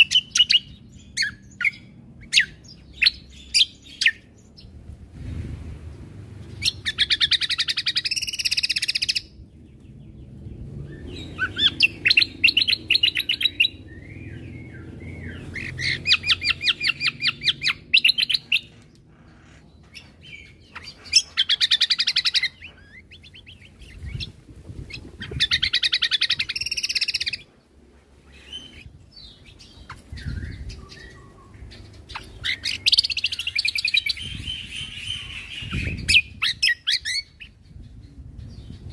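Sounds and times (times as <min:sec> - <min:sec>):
songbird singing rattling notes: 0:00.0 - 0:38.9.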